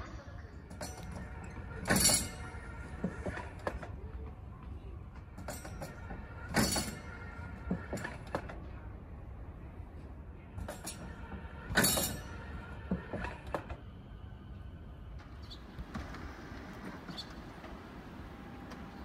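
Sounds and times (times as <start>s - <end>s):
railway point machine clunk: 0.0s - 19.0s.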